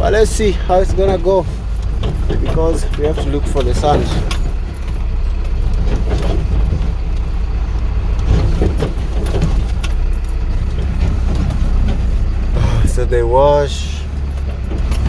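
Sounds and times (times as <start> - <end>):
knocks and rattles: 0.0 - 15.0
vehicle engine and road rumble: 0.0 - 15.0.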